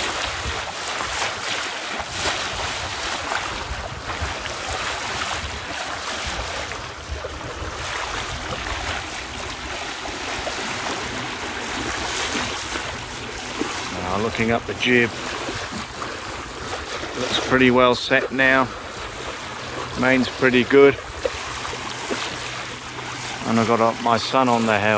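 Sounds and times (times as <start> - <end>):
water rushing along yacht hull: 0.0 - 24.9
wind buffeting microphone: 0.0 - 24.9.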